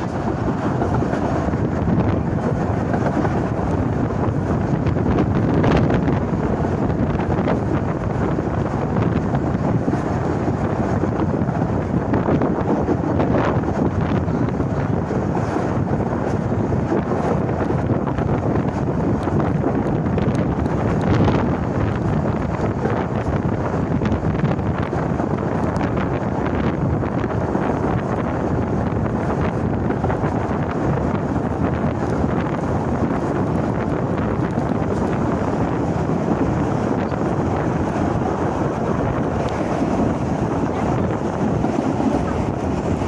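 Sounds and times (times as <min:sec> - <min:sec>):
steam train rumbling: 0:00.0 - 0:43.0
wind buffeting microphone: 0:00.0 - 0:43.0.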